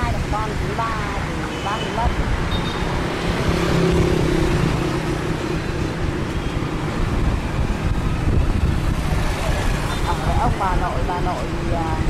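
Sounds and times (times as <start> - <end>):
road traffic rushing: 0.0 - 12.0
wind: 0.0 - 12.0.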